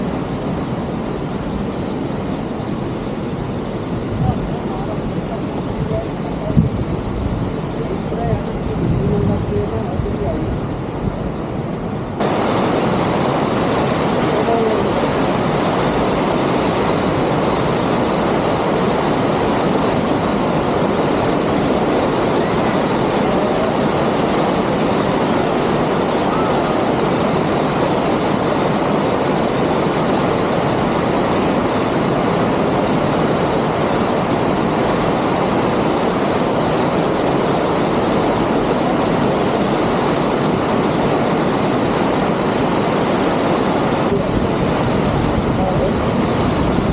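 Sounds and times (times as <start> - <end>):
waterfall: 0.0 - 46.9.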